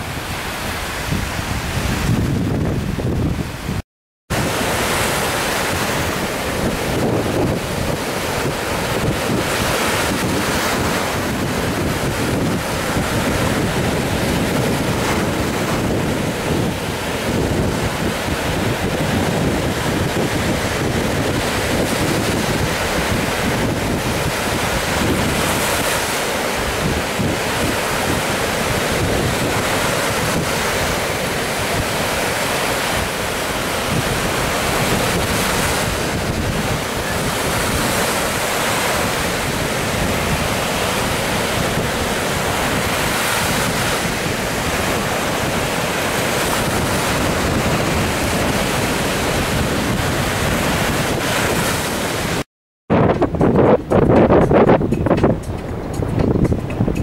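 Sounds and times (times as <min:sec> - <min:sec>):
small waves breaking on shore: 0:00.0 - 0:52.5
wind buffeting microphone: 0:00.0 - 0:57.0.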